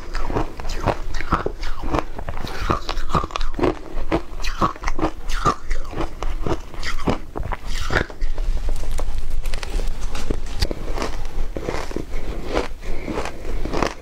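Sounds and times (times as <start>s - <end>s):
crunching shaved ice: 0.0s - 14.0s.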